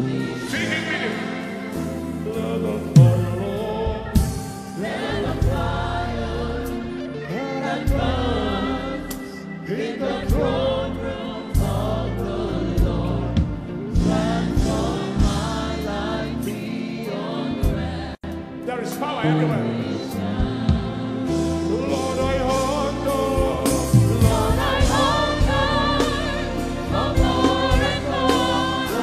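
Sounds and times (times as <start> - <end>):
choir singing: 0.0 - 29.0
instrumental accompaniment: 0.0 - 29.0.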